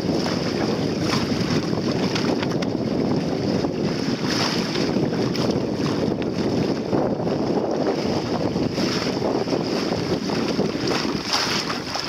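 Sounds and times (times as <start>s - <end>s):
water lapping along hull: 0.0s - 12.0s
wind buffeting microphone: 0.0s - 12.0s.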